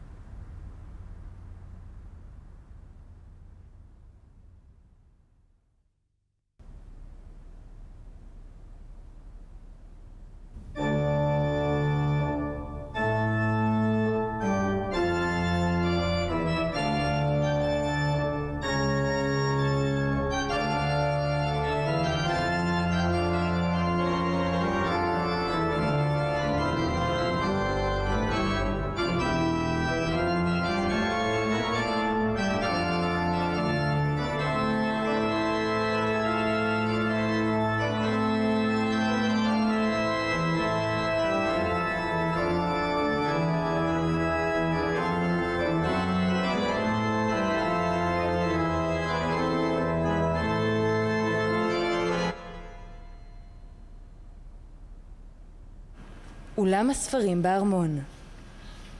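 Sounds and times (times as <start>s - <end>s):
organ chords: 6.6s - 58.9s.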